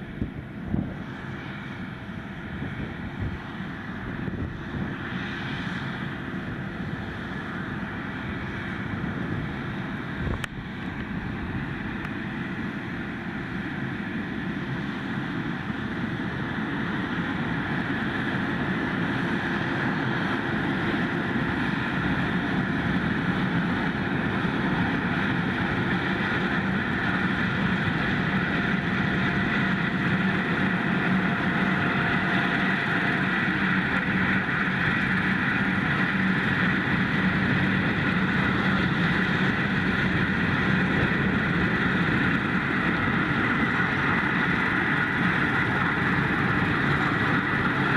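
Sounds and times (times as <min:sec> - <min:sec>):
wind on microphone: 0:00.0 - 0:13.2, 0:14.0 - 0:47.9
harvest machinery running: 0:00.0 - 0:47.9.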